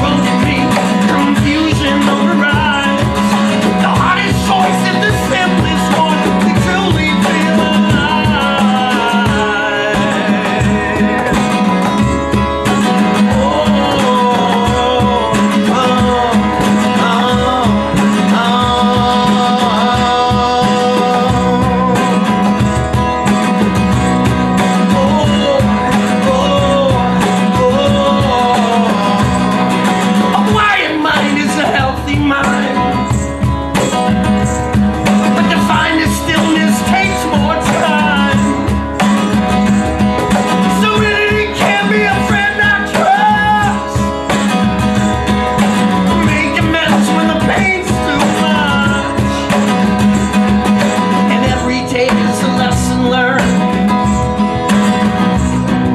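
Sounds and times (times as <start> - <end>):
person singing: 0.0 - 55.9
plucked guitar: 0.0 - 55.9.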